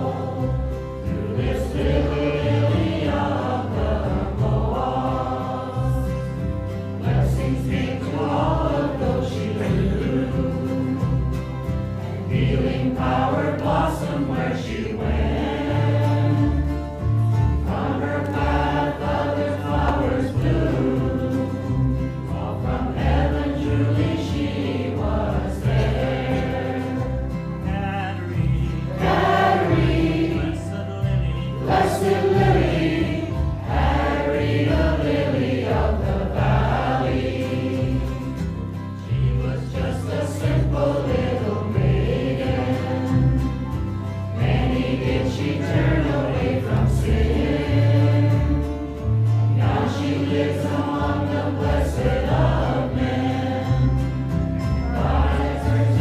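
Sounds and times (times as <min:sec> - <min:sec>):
congregation singing a hymn: 0:00.0 - 0:56.0
steady low notes: 0:00.0 - 0:56.0.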